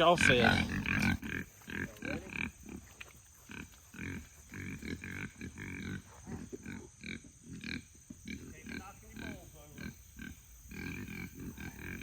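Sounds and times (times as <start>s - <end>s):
pigs grunting and squealing: 0.0s - 12.0s.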